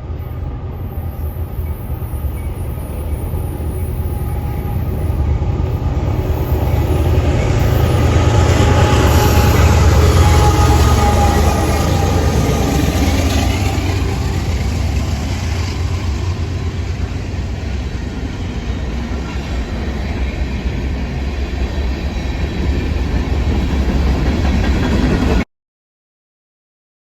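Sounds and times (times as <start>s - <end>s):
train wheels rumbling on rails: 0.0s - 25.4s.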